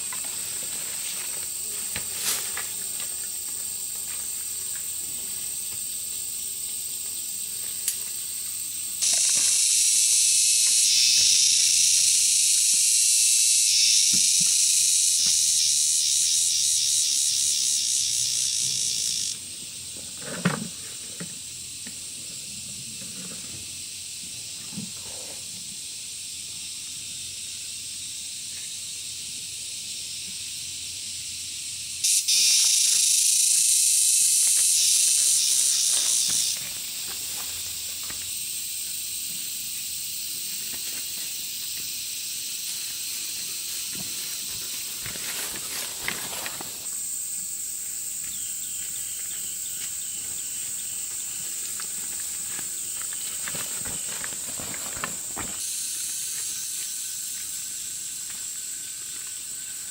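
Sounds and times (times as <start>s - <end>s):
high-pitched pulsing insect buzz: 1.4s - 20.0s, 25.9s - 59.9s.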